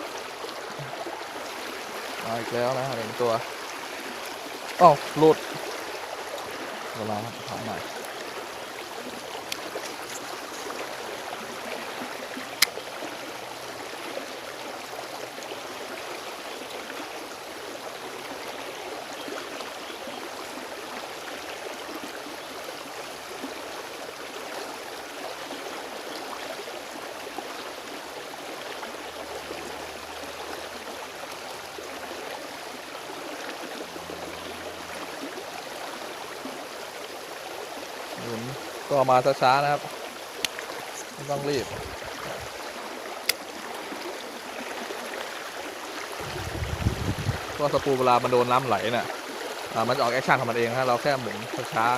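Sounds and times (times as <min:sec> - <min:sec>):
stream water babbling: 0:00.0 - 0:51.9.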